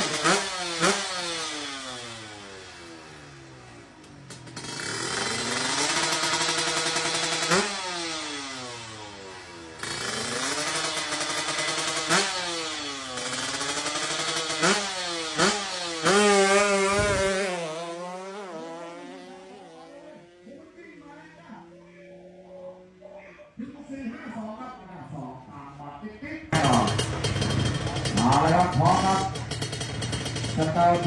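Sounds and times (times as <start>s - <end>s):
motorcycle engine revving: 0.0s - 20.8s, 26.5s - 31.0s.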